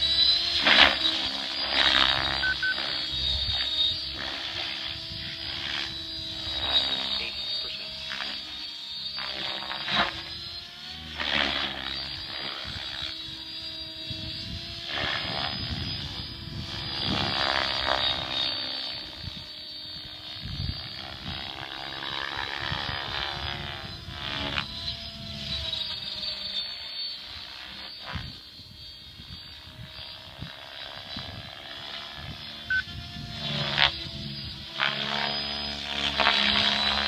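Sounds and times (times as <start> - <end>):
rc helicopter whining hum: 0.0 - 37.0.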